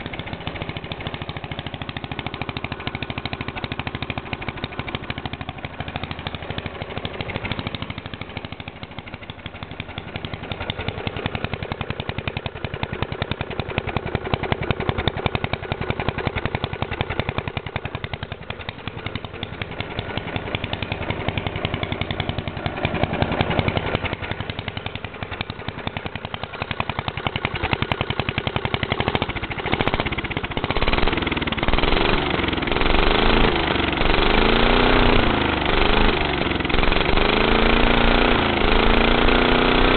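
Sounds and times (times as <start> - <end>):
lawnmower engine running: 0.0 - 39.9.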